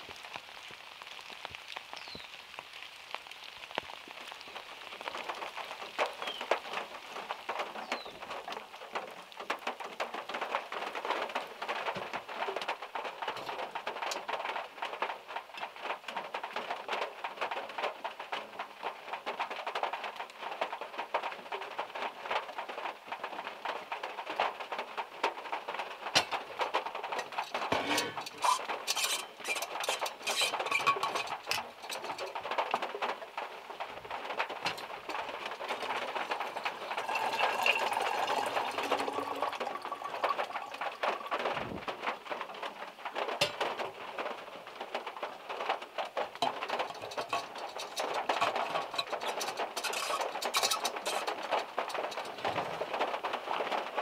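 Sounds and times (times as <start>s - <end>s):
rain pattering on car roof: 0.0s - 54.0s.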